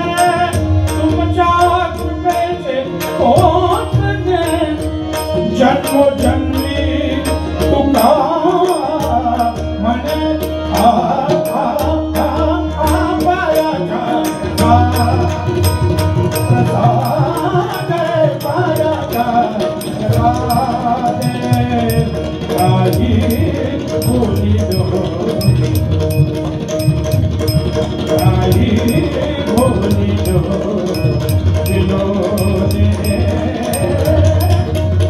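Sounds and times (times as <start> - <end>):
harmonium: 0.0 - 35.0
man singing: 0.0 - 35.0
tabla strokes: 0.0 - 35.0.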